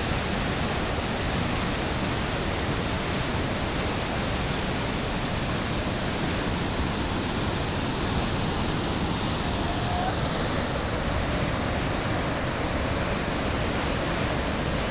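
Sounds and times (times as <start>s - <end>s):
waterfall roaring: 0.0s - 14.9s.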